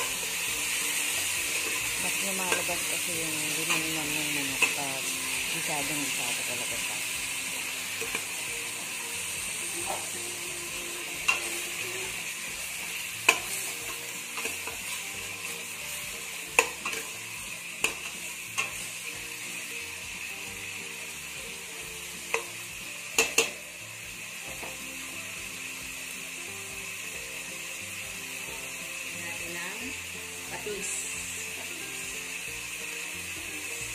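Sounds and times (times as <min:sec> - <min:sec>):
chicken sizzling in hot oil: 0:00.0 - 0:33.9.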